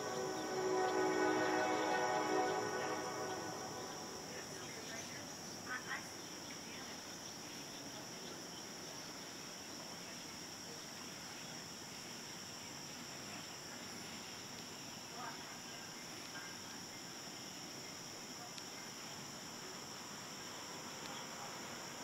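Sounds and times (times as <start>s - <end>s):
faint outdoor hush: 0.0s - 22.0s
high-pitched insect chorus: 0.0s - 22.0s.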